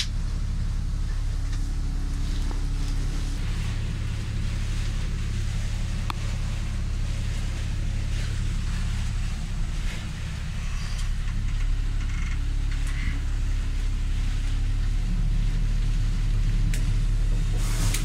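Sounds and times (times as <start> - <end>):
engine rumble inside cab: 0.0 - 18.0
heavy rain and wind on windows: 0.0 - 18.0.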